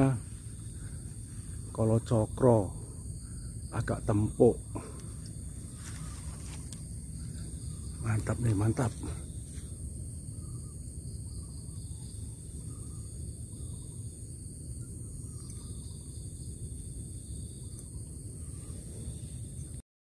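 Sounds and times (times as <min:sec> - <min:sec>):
insects droning: 0:00.0 - 0:19.8
low rumbling noise: 0:00.0 - 0:19.8.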